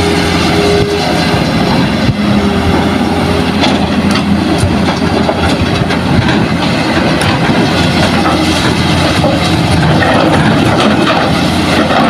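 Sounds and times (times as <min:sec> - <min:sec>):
excavator diesel engine: 0:00.0 - 0:12.0.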